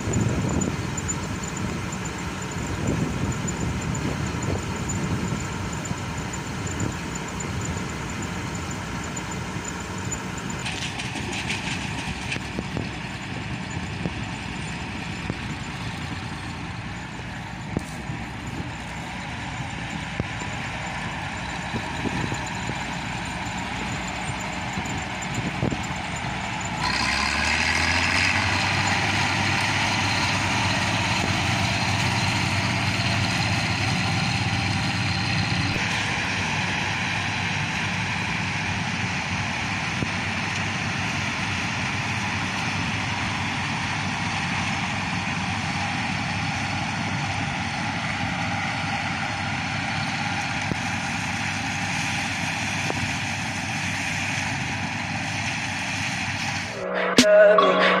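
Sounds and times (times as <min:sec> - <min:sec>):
combine harvester engine and machinery: 0:00.0 - 0:58.0.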